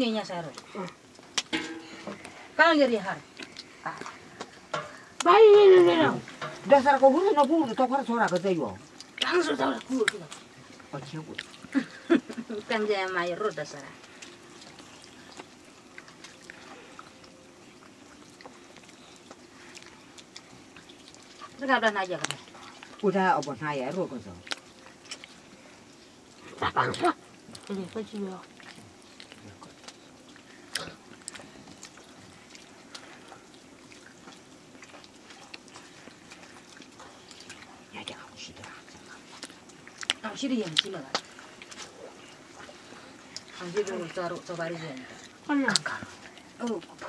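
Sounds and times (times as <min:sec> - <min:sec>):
low steady hiss: 0:00.0 - 0:47.0.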